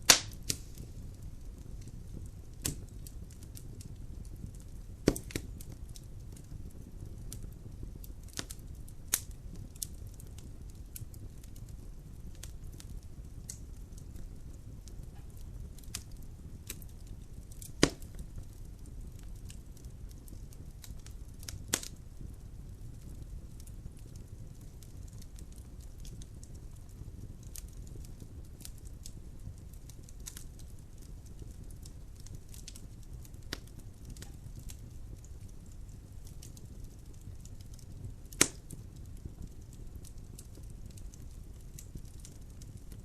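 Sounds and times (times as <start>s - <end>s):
logs burning in fireplace: 0.0s - 43.0s
sharp crackles and pops of fire: 0.0s - 43.0s.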